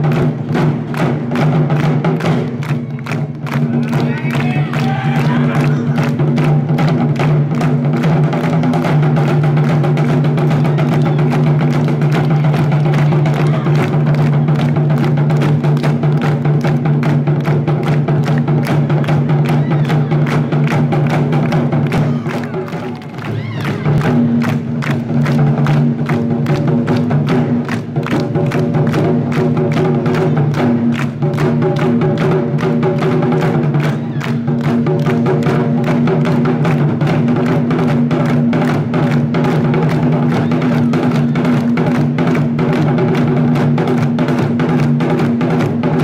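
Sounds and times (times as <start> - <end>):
taiko drums beaten fast: 0.0 - 46.0.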